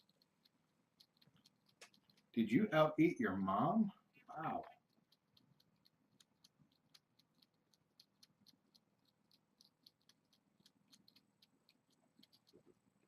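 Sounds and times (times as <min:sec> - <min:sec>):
kittens licking and chewing food: 0:00.0 - 0:13.0.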